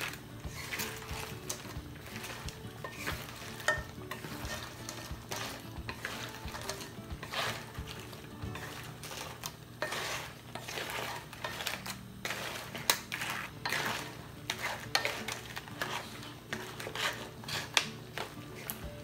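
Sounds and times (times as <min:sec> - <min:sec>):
utensil scraping food in pan: 0:00.0 - 0:19.0.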